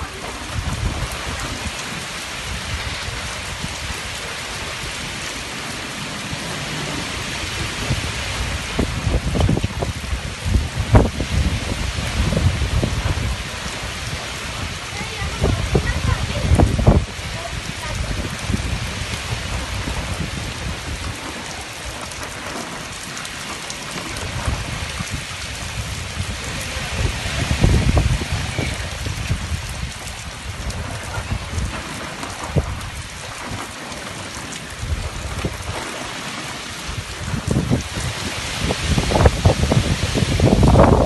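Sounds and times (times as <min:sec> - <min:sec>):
heavy rain pouring: 0:00.0 - 0:41.0
wind rumbling on microphone: 0:00.0 - 0:41.0.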